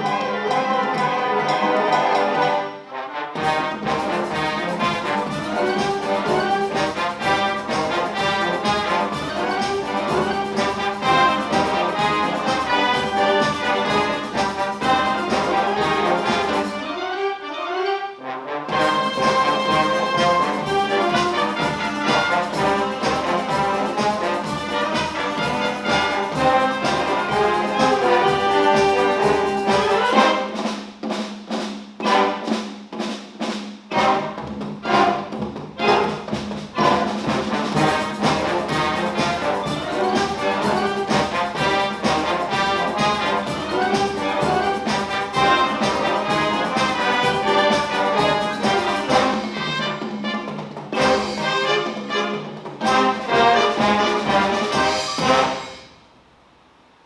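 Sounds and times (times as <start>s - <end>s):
wind band playing: 0.0s - 56.2s.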